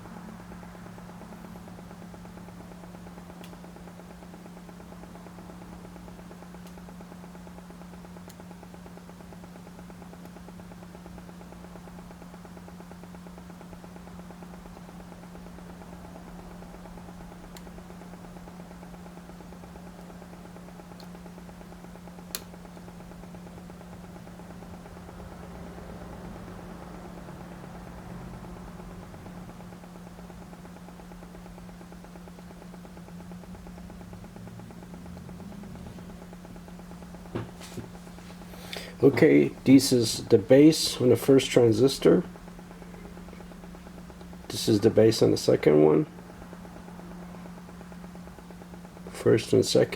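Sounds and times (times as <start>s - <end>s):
low electrical hum: 0.0s - 49.9s.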